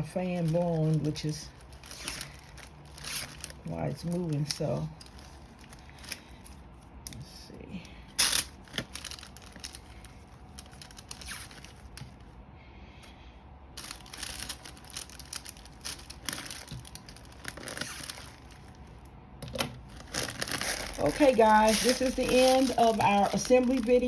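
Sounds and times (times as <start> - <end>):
plastic wrapping crinkling: 0.0 - 7.0, 8.0 - 12.3, 13.7 - 24.0.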